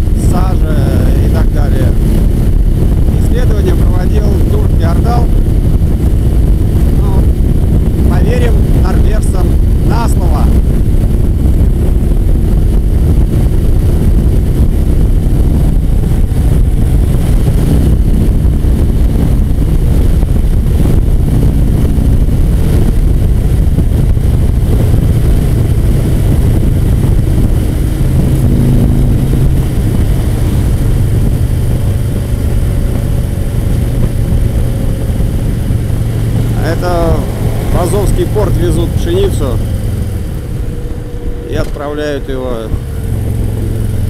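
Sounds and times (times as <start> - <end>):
motorcycle engine cruising: 0.0 - 44.0
rushing air noise: 0.0 - 44.0.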